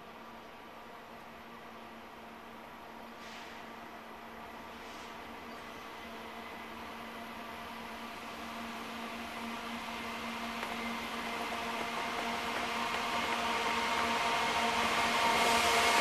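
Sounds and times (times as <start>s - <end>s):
diesel locomotive engine hum: 0.0s - 16.0s.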